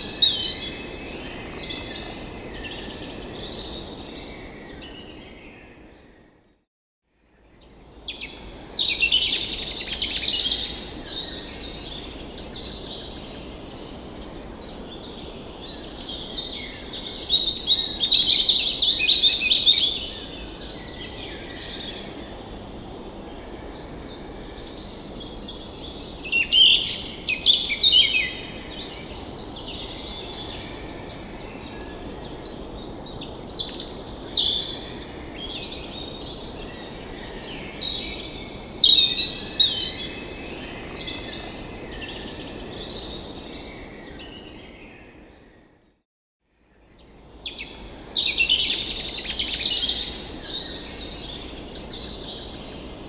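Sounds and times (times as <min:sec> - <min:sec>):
songbirds singing and chirping: 0:07.6 - 0:45.7, 0:46.8 - 0:53.0.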